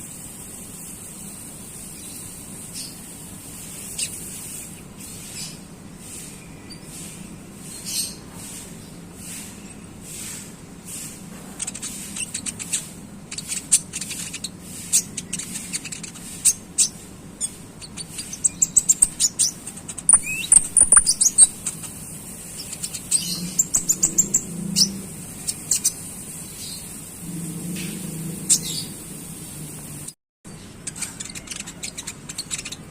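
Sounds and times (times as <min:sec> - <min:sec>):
songbird chattering chirps: 0:01.8 - 0:27.0, 0:30.5 - 0:32.9.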